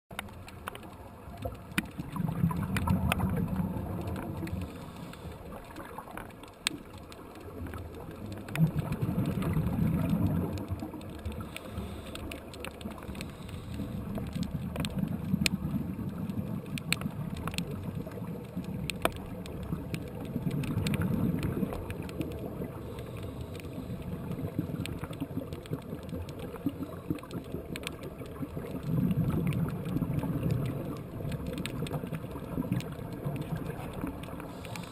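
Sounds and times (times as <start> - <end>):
faint sharp clicks: 0.1 - 34.9
underwater regulator bubbles gurgling: 0.1 - 34.9.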